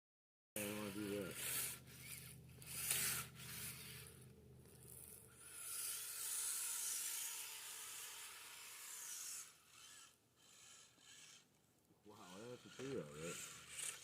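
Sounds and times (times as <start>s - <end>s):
toy tracked vehicle scraping: 0.6s - 14.0s.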